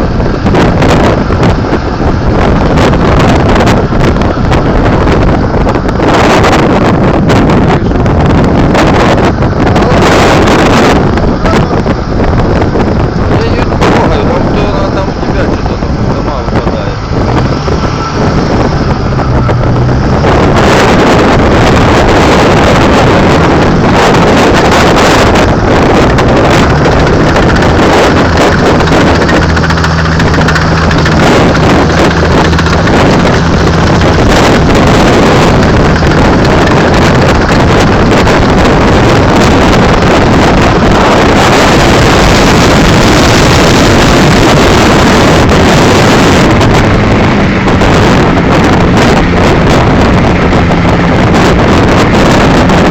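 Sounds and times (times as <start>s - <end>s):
strong wind buffeting microphone: 0.0s - 52.9s.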